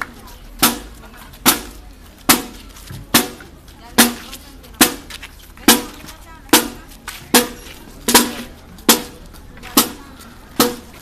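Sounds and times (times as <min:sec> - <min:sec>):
marching drums and cymbals: 0:00.0 - 0:11.0.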